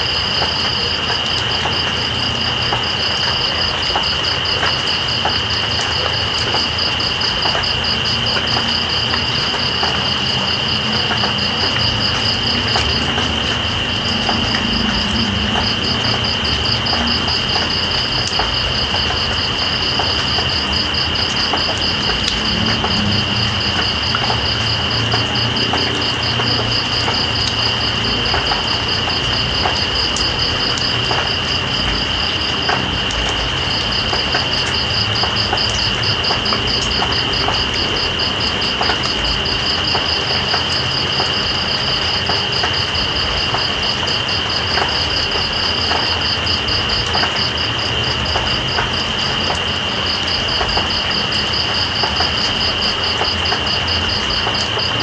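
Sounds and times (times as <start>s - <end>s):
insect high drone: 0.0s - 55.0s
rain drop ticks: 0.0s - 55.0s
rain hiss: 0.0s - 55.0s.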